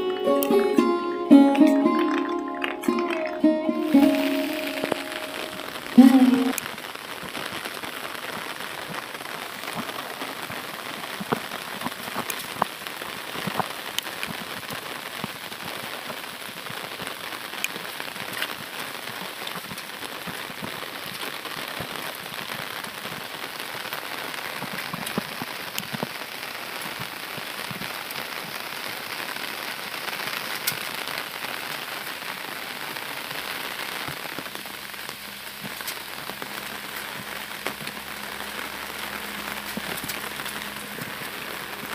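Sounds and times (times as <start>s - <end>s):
heavy rain: 0.0s - 41.9s
raindrop taps close by: 1.9s - 3.4s, 4.8s - 28.6s, 30.5s - 31.4s, 33.3s - 41.8s.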